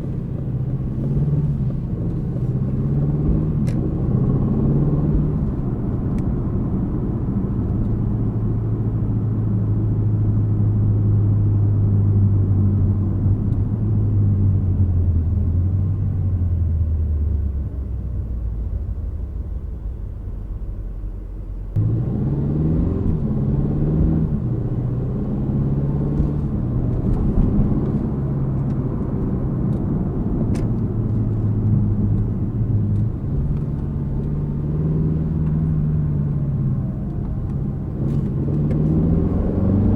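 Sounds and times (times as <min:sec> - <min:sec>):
car engine cruising and accelerating: 0:00.0 - 0:39.9.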